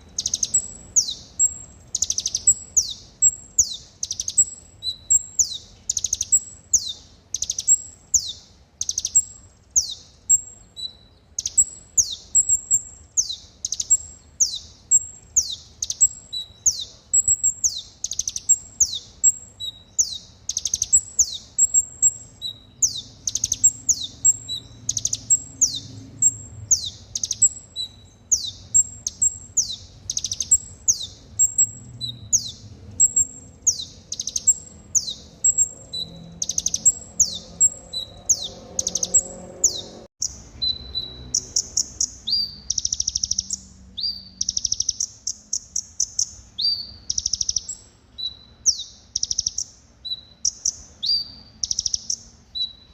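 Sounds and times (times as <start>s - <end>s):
sunbird song: 0.0s - 52.9s.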